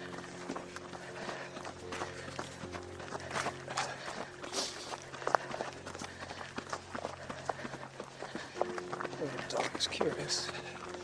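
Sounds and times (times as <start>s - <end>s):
running footsteps on dirt trail: 0.0s - 11.0s.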